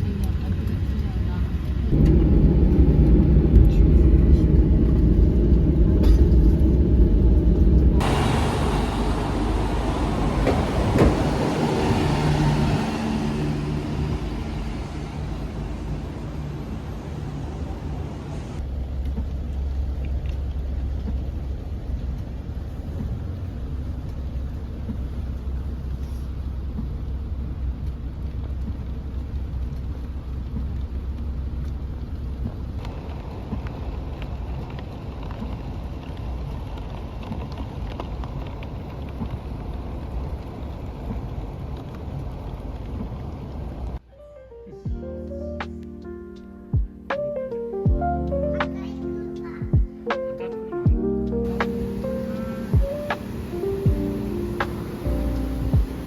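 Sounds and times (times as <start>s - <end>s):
low rumble with noise: 0.0s - 44.1s, 44.9s - 56.0s.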